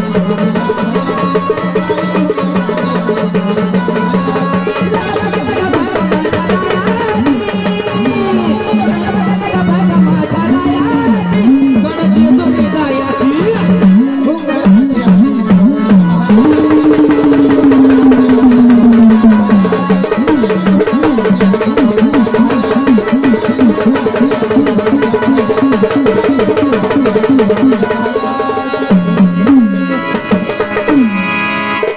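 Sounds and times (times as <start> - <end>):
fast hand drumming: 0.0 - 31.2
wavering folk melody: 0.0 - 31.9.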